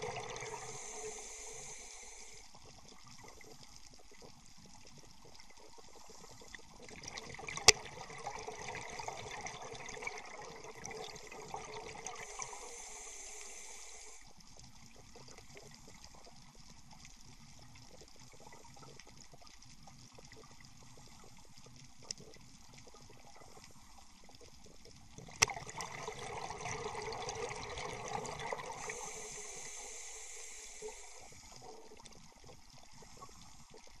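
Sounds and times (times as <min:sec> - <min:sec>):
quiet hiss of water: 0:00.0 - 0:34.0.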